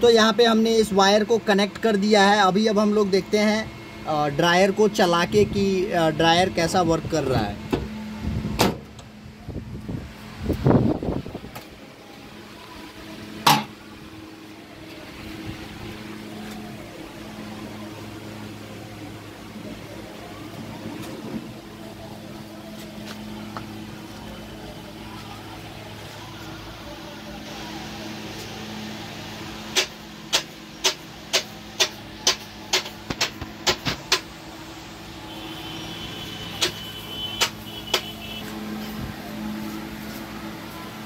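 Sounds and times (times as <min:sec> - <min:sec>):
machine electrical hum: 0:00.0 - 0:41.0.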